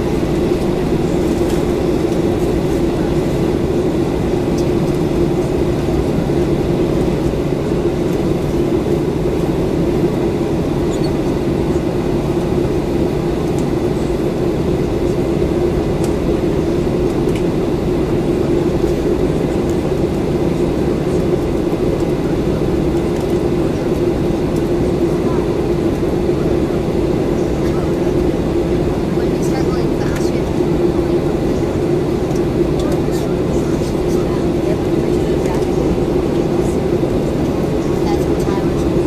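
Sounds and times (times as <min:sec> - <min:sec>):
airplane cabin engine hum: 0:00.0 - 0:39.0.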